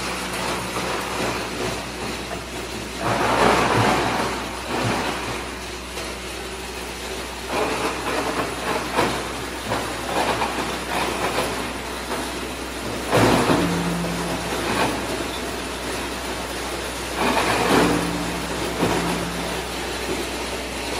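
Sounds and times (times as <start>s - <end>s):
pipe crusher humming: 0.0s - 20.9s.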